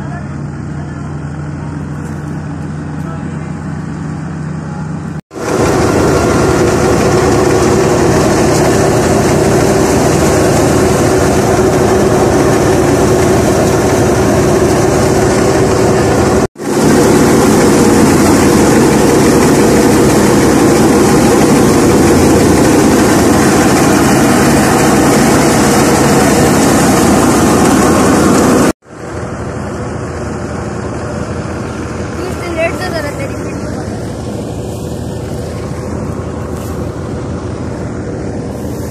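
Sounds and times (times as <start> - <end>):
thresher mechanical din: 5.3 - 38.9.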